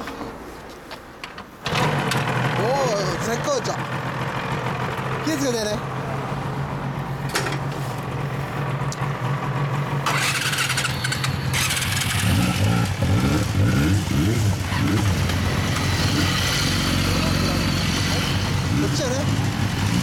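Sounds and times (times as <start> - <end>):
motorcycles idling: 1.7 - 20.0.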